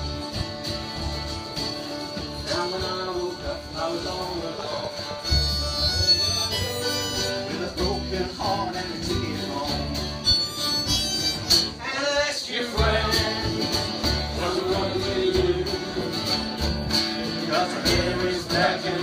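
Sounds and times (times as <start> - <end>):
plucked double bass: 0.0 - 11.8, 12.6 - 19.0
acoustic folk music: 0.0 - 19.0.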